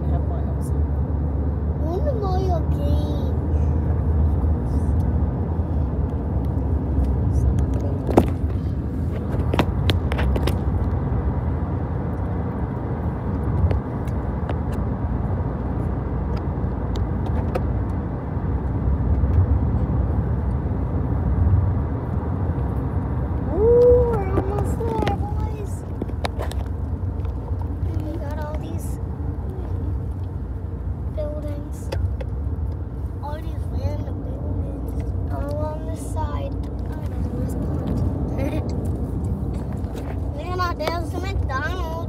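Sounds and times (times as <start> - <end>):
car cabin road rumble: 0.0 - 42.0.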